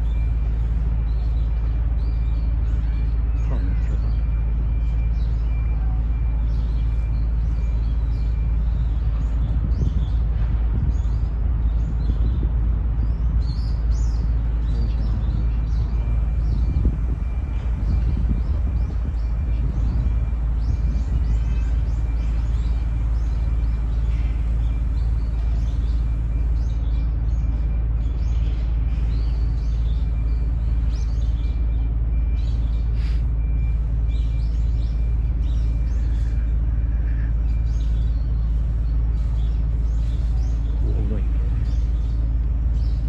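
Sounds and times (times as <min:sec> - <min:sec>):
low rumble: 0:00.0 - 0:43.0
small birds chirping: 0:00.0 - 0:43.0.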